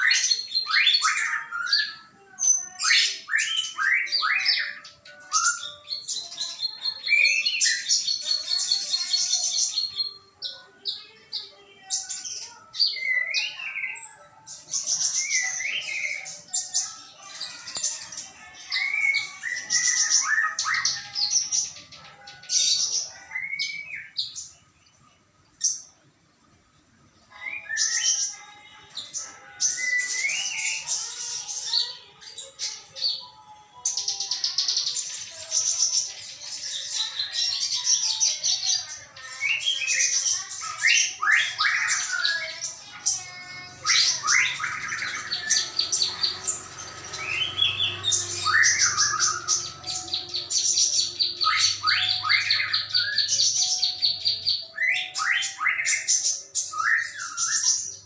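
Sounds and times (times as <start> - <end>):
songbirds chirping and twittering: 0.0 - 58.0.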